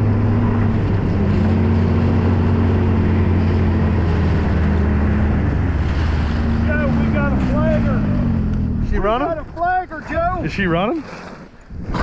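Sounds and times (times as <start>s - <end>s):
snowmobile engine droning: 0.0s - 12.0s.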